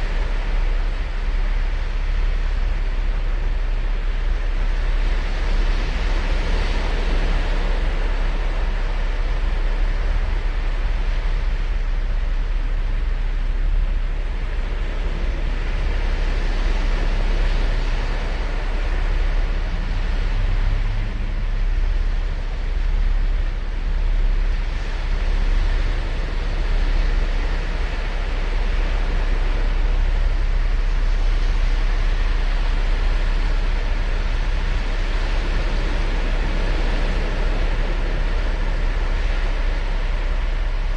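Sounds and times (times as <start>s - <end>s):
deep low rumble: 0.0s - 40.9s
ocean surf on beach: 0.0s - 40.9s.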